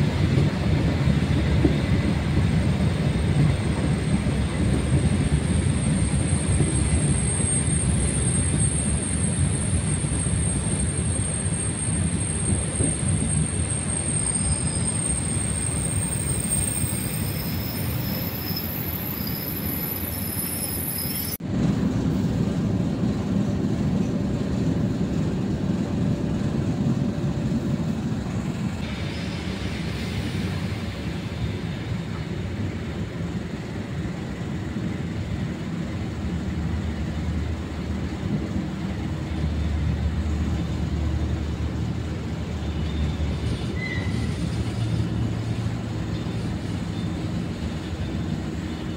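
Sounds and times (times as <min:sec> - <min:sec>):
train wheels rumbling: 0:00.0 - 0:48.9.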